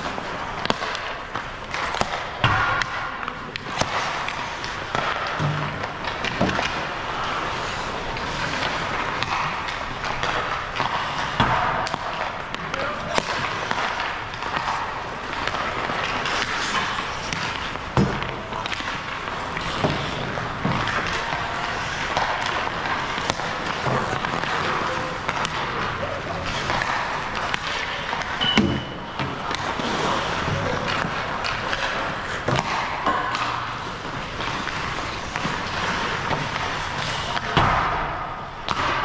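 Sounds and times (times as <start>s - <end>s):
pucks thudding on boards: 0.0s - 39.0s
skates scraping ice: 0.0s - 39.0s
sticks and pucks clacking: 0.0s - 39.0s.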